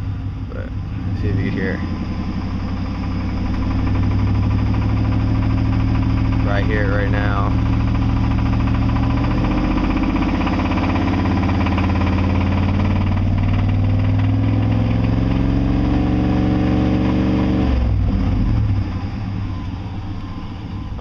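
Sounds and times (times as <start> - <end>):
truck engine revving: 0.0 - 21.0
engine knock: 0.6 - 19.0.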